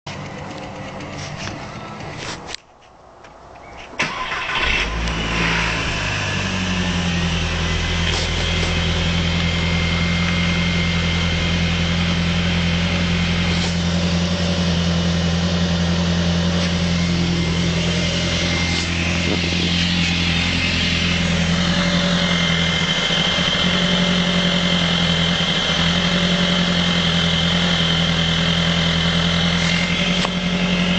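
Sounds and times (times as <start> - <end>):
engine starting and idling: 0.1 - 2.5, 4.0 - 14.3, 16.6 - 30.9.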